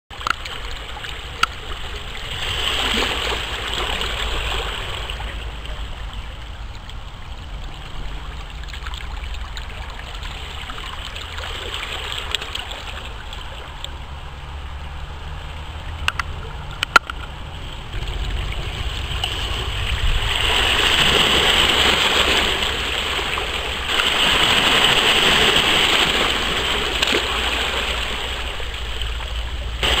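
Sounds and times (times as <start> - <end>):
small waves lapping over rocks: 0.1 - 30.0.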